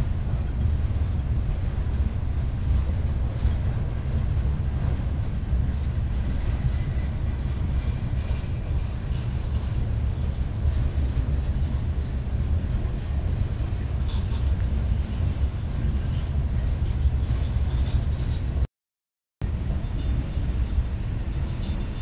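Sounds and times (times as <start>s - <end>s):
light clicks from train cars: 0.0s - 18.6s, 19.4s - 22.0s
train wheels rumbling on rails: 0.0s - 18.6s, 19.4s - 22.0s.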